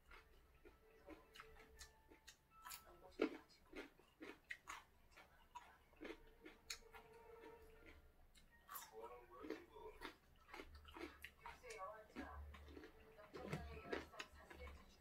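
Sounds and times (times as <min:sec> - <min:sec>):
cucumber crunching while chewed: 0:00.0 - 0:15.0.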